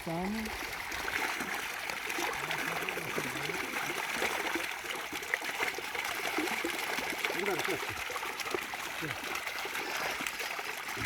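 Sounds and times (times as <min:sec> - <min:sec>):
light water splashing: 0:00.0 - 0:11.0
water running and trickling: 0:00.0 - 0:11.0.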